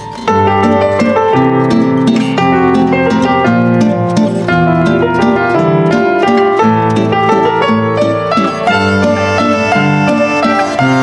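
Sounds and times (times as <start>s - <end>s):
plucked strings melody: 0.0s - 11.0s.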